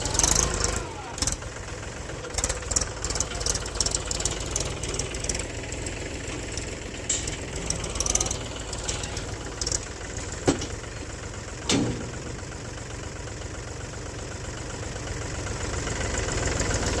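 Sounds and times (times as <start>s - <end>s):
diesel tractor engine idling: 0.0s - 17.0s.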